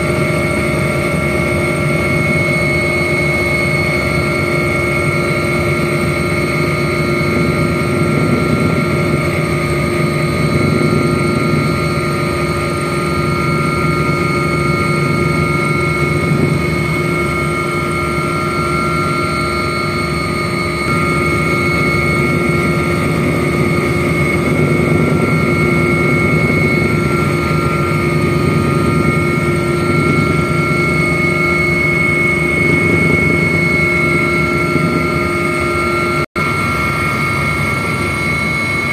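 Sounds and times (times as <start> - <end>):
aircraft engine drone in cabin: 0.0 - 38.9.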